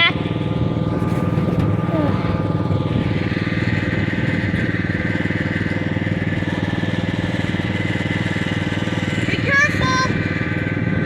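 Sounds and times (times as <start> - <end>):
small vehicle engine running: 0.0 - 11.0.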